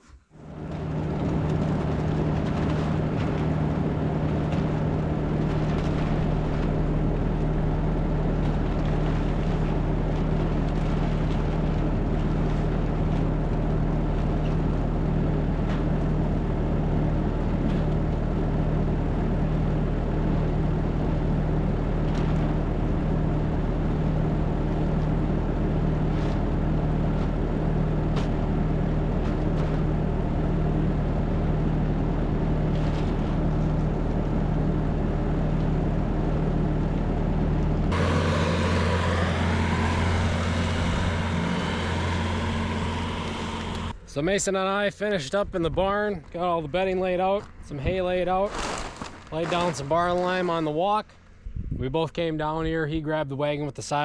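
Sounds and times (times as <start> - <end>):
farm machine engine humming: 0.0 - 51.5.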